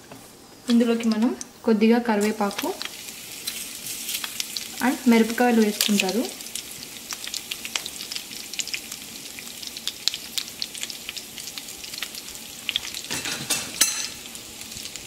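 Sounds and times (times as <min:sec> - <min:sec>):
spices sizzling in hot oil: 0:00.6 - 0:15.0.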